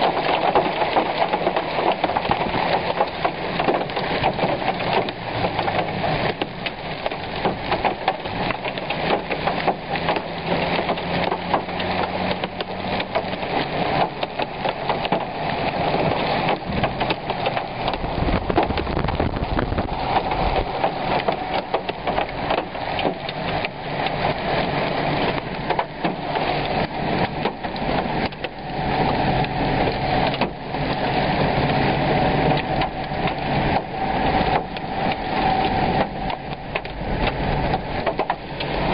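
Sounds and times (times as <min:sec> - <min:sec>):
heavy rain pelting a car: 0:00.0 - 0:38.9.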